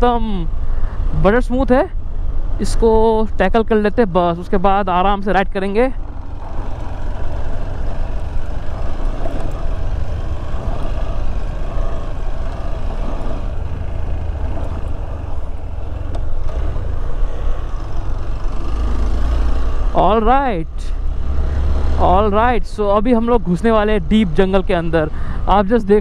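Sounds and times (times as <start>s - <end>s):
motorcycle engine rumbling: 4.1s - 26.0s.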